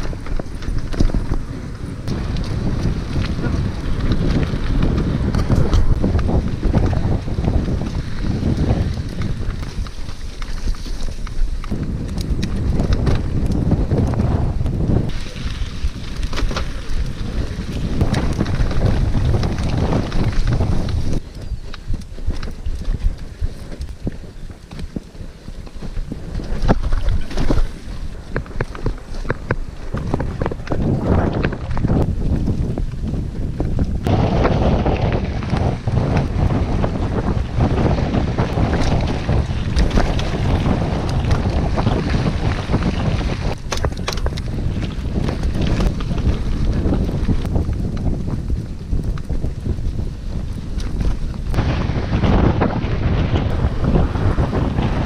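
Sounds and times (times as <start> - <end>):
bike knocks and rattles: 0.0 - 55.0
wind buffeting microphone: 0.0 - 55.0.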